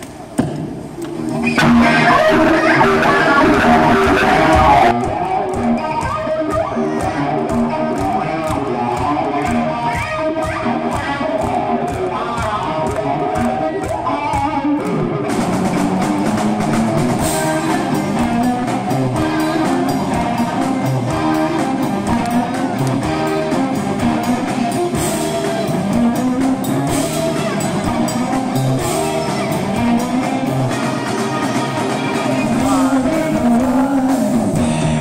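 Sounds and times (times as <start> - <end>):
drum kit: 0.0 - 35.0
electric guitar: 0.0 - 35.0.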